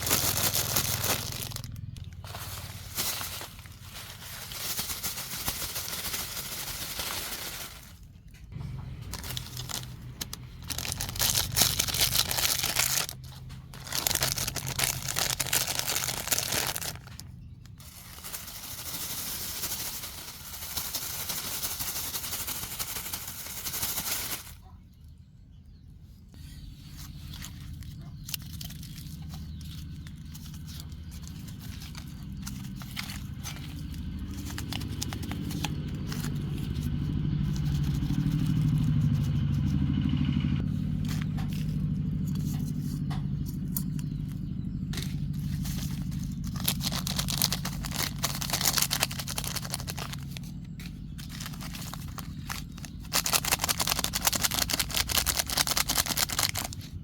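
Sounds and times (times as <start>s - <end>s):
plastic bags crinkling: 0.0s - 24.6s, 27.2s - 39.2s, 43.6s - 57.0s.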